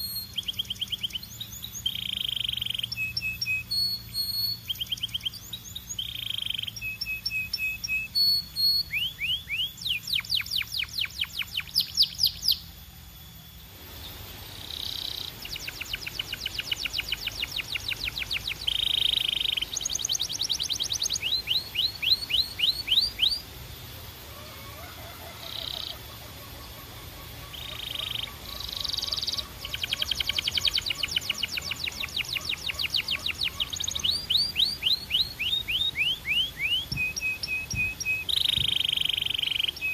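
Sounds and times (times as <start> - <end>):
canary singing trilled phrases: 0.0 - 12.7, 14.0 - 23.5, 24.8 - 39.9.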